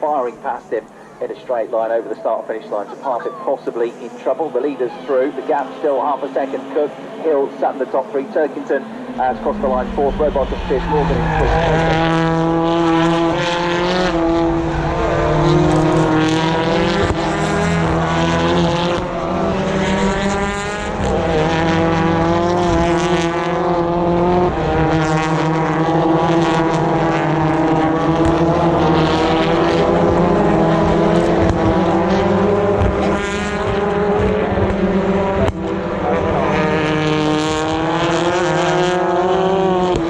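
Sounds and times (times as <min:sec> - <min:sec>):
racing cars passing: 0:00.0 - 0:40.0.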